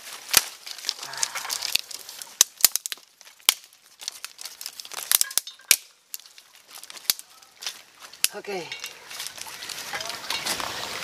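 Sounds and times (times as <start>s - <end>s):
dry twigs snapping: 0.0s - 10.7s
leafy stems rustling: 0.0s - 11.0s.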